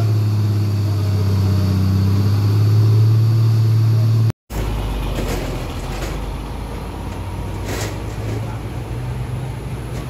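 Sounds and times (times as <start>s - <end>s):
diesel engine humming: 0.0s - 10.0s
dump truck rumbling: 0.0s - 10.0s
road traffic: 0.0s - 10.0s.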